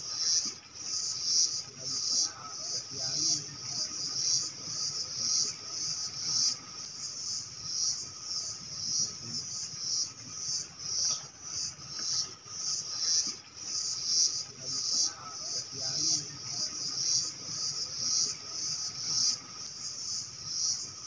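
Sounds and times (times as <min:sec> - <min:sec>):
crickets chorus pulsing: 0:00.0 - 0:21.0.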